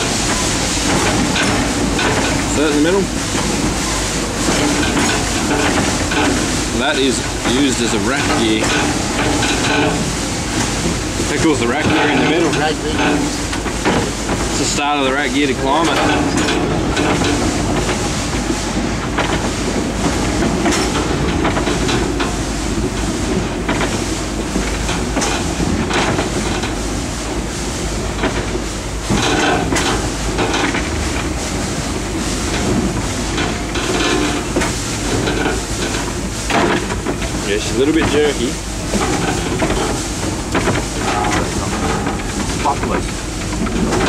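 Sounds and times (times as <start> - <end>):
wheels and rack gear clanking: 0.0 - 27.4, 28.0 - 44.0
steam train running rumble: 0.0 - 44.0.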